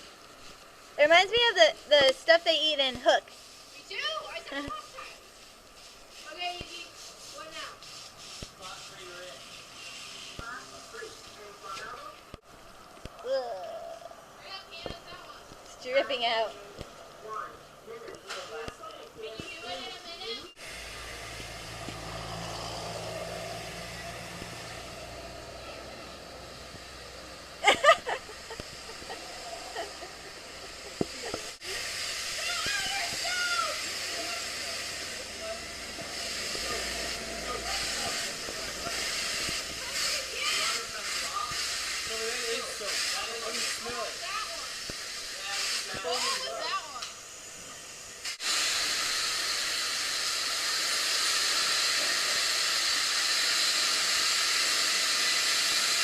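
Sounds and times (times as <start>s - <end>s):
water spraying hiss: 0.0s - 56.0s.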